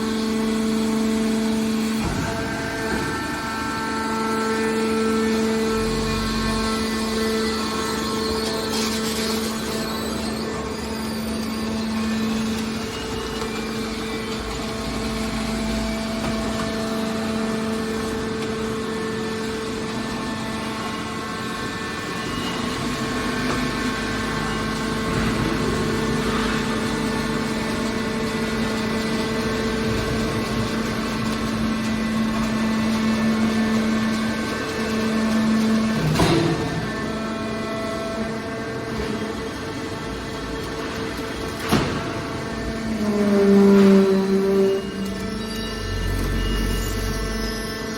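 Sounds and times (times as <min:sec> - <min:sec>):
baler machine hum: 0:00.0 - 0:47.9.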